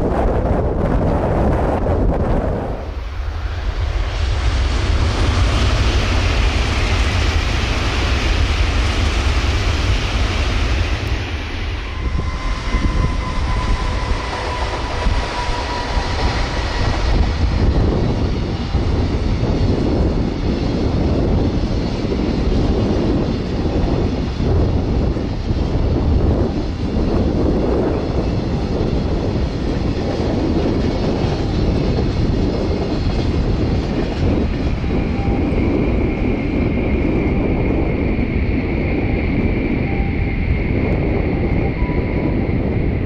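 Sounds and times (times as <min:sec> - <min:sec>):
faint train whine: 0:00.0 - 0:43.0
train rushing past: 0:00.0 - 0:43.0.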